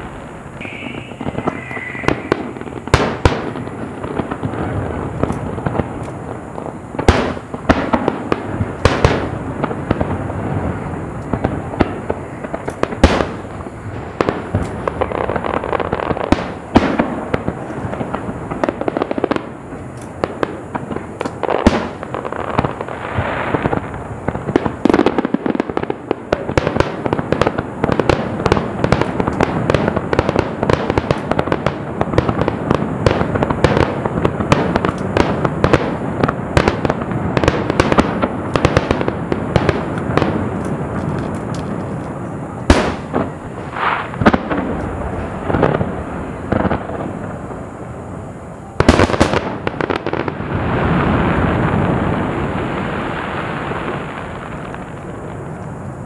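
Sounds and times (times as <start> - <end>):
fireworks crackle and rumble: 0.0 - 56.0
loud sharp fireworks bangs: 0.0 - 56.0.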